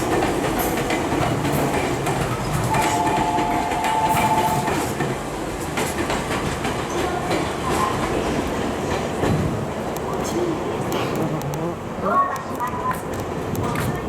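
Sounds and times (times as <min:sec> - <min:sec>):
train wheels clicking over rail joints: 0:00.0 - 0:11.5
train running rumble: 0:00.0 - 0:12.0.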